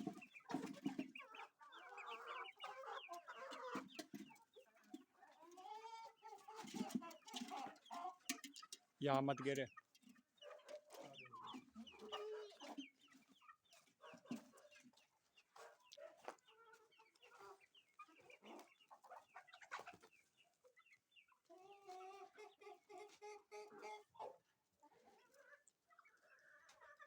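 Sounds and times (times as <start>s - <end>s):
chicken drawn-out call: 0.0s - 8.8s, 9.8s - 27.0s
chickens clucking: 0.0s - 27.0s.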